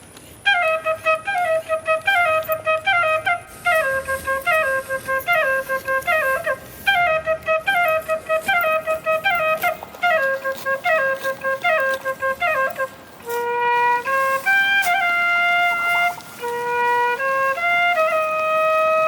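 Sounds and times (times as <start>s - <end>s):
solo flute melody: 0.3s - 19.0s.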